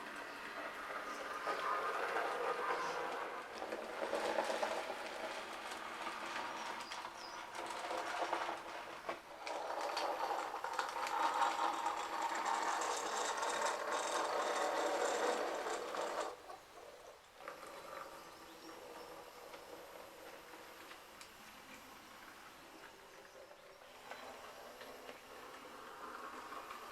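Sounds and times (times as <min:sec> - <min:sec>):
model train running on track: 0:00.0 - 0:26.9.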